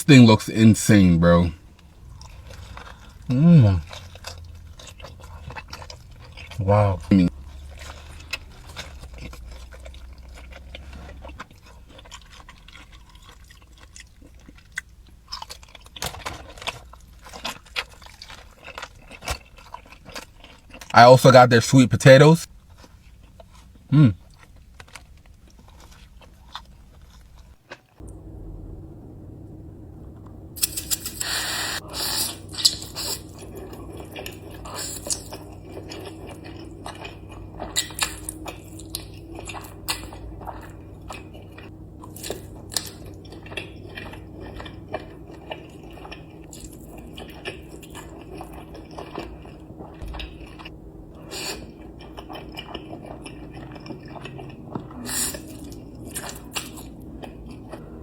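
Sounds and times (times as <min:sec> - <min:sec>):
steady low hum: 0:00.0 - 0:25.6, 0:26.8 - 0:58.0
crunching and chewing: 0:01.2 - 0:21.0, 0:22.4 - 0:28.3, 0:30.3 - 0:58.0.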